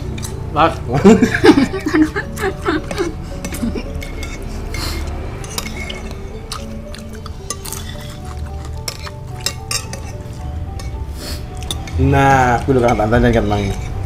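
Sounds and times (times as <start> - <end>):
background music with bass: 0.0 - 14.0
spoons clinking on plates: 1.0 - 14.0.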